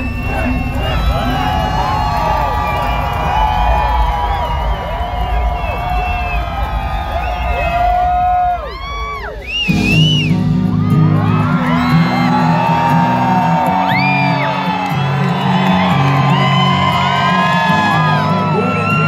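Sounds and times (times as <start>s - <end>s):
crowd whooping and yelling: 0.0s - 19.0s.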